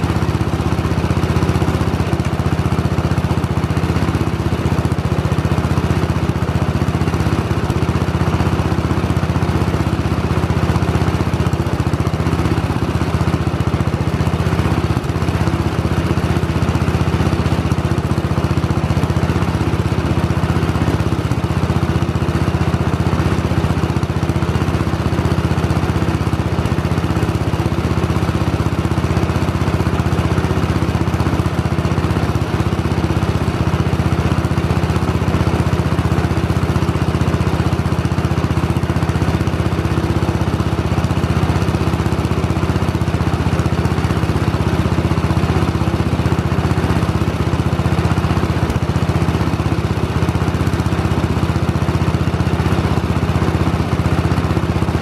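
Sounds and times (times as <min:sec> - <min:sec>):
garden tractor engine idling: 0:00.0 - 0:55.0.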